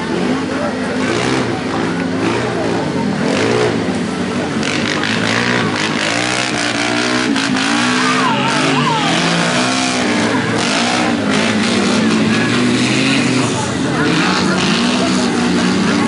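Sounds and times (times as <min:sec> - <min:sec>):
buggy engine revving in mud: 0:00.0 - 0:16.0.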